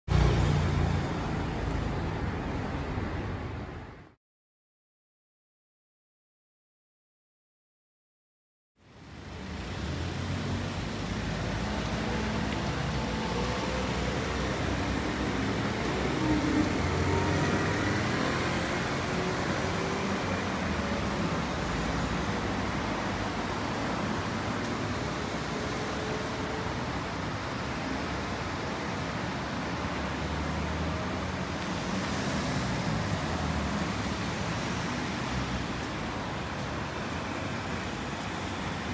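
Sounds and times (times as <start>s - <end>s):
road traffic noise: 0.1s - 4.2s, 8.8s - 38.9s.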